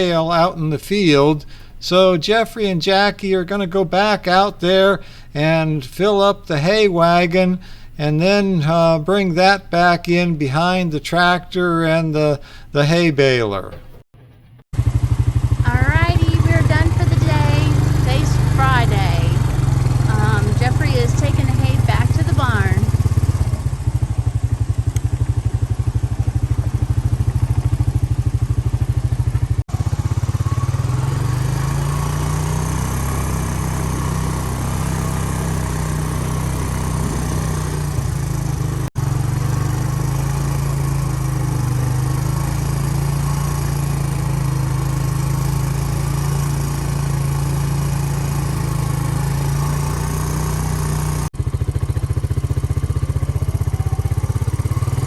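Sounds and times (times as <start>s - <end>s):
vehicle engine droning: 0.0s - 12.6s, 13.6s - 55.0s.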